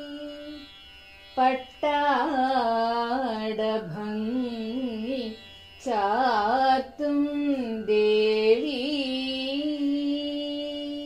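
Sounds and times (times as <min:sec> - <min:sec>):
person singing: 0:01.4 - 0:11.0.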